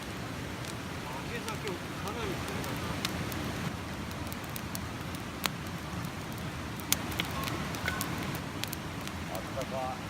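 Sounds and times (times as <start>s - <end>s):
fire pops: 0.0s - 9.8s
wood fire crackling: 0.0s - 10.0s.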